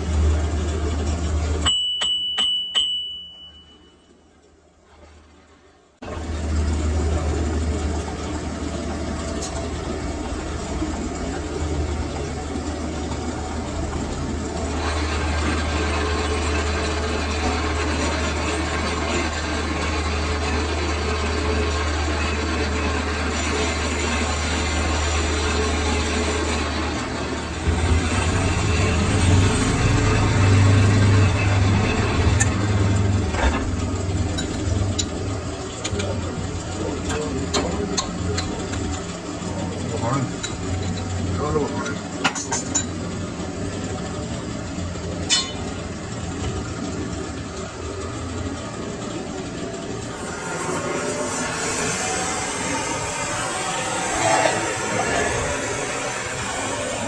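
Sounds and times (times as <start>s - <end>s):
lathe running: 0.0s - 1.6s, 6.0s - 57.0s
workshop machinery humming: 0.0s - 57.0s.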